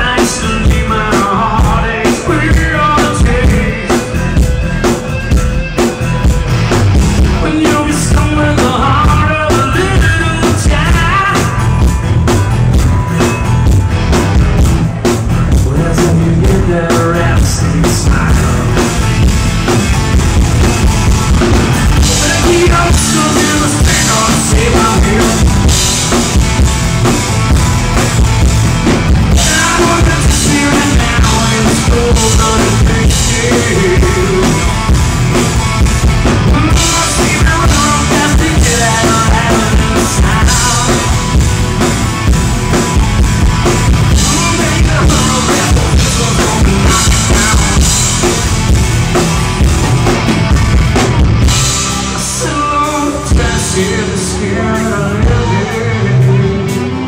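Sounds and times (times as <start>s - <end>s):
driving drum kit: 0.0s - 57.0s
live rock band playing: 0.0s - 57.0s.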